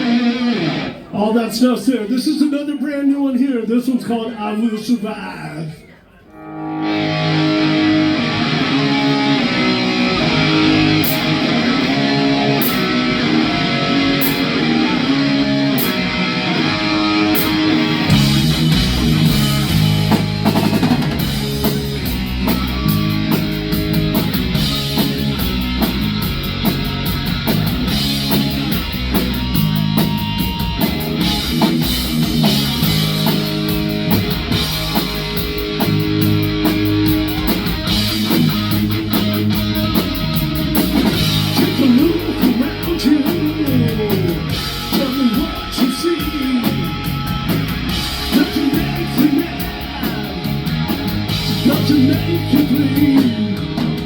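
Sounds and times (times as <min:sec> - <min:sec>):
electric guitar riff: 0:00.0 - 0:01.2, 0:06.3 - 0:54.0
rock band playing: 0:00.0 - 0:02.2, 0:06.3 - 0:54.0.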